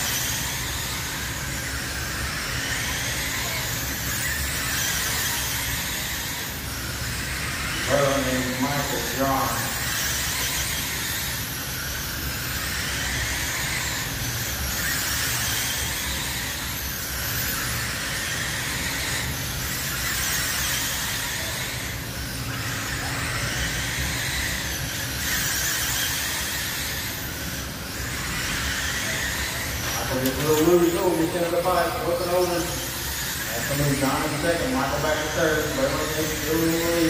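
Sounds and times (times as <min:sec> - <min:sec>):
electric motors whining: 0:00.0 - 0:37.0.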